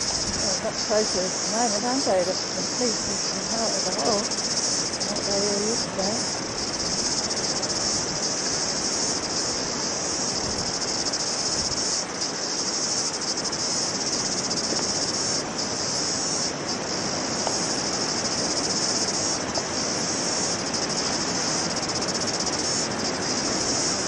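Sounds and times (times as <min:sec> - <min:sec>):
high-pitched insect chorus: 0:00.0 - 0:24.0
wind noise on microphone: 0:00.0 - 0:24.0.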